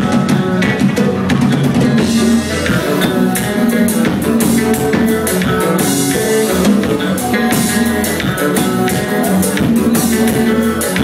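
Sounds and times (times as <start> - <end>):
drum kit beat: 0.0 - 11.0
live band playing: 0.0 - 11.0.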